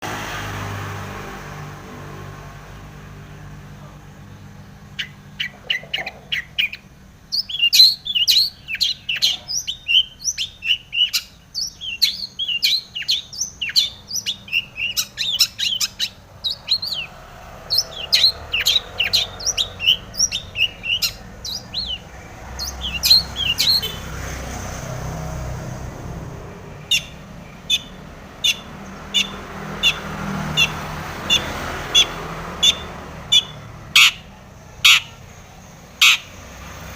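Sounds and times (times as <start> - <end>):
bird singing chirps and trills: 3.8 - 36.9.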